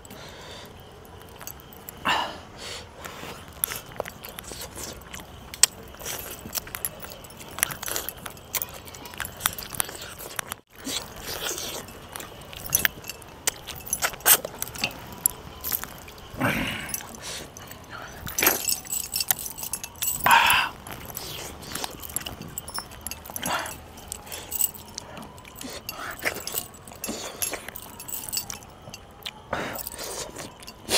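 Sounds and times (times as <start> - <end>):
metal bracelets jingling: 0.0 - 2.0, 3.0 - 30.9
person chewing food: 0.6 - 2.0, 2.9 - 30.9.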